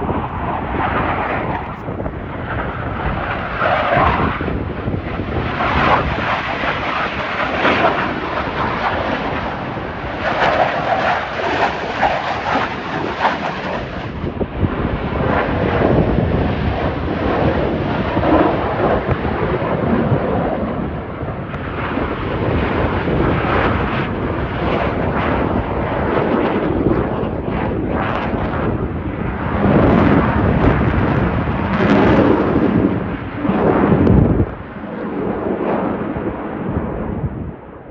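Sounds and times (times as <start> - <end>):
jet roar: 0.0 - 37.9
wind buffeting on microphone: 0.0 - 37.9.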